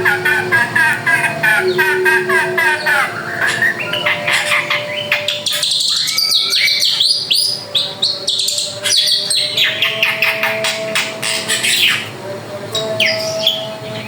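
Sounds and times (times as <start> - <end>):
bird singing varied song: 0.0 - 14.0.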